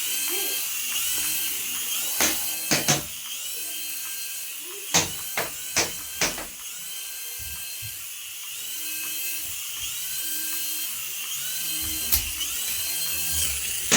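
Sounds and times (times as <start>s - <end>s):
toy electric motor whining: 0.0s - 13.9s.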